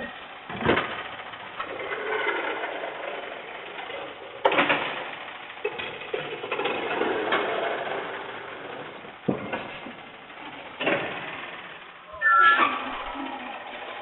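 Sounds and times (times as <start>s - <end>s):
garbage truck machinery rattling: 0.0s - 14.0s.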